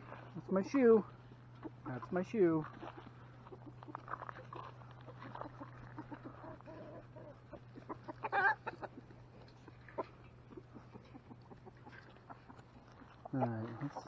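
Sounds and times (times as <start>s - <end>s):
chickens clucking: 0.0s - 14.0s
chicken squawk: 2.7s - 14.0s.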